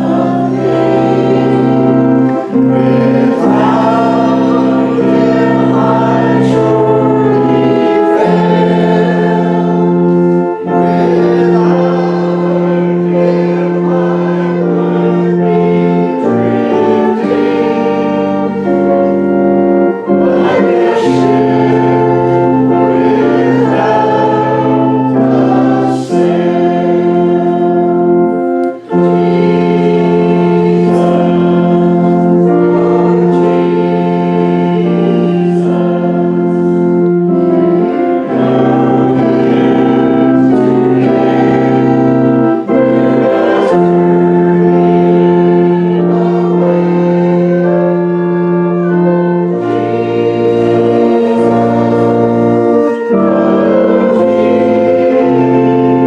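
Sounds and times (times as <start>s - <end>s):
congregation singing a hymn: 0.0s - 56.0s
organ chords: 0.0s - 56.0s.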